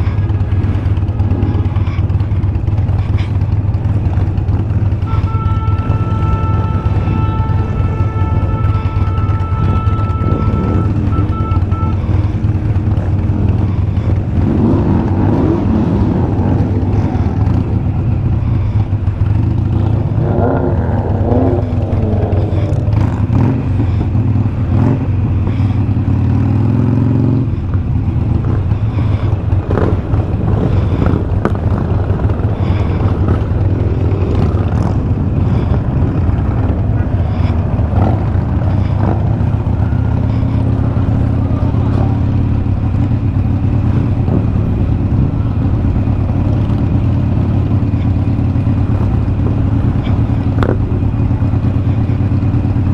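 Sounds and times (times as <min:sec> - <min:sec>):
motorcycle engine rumbling: 0:00.0 - 0:52.9.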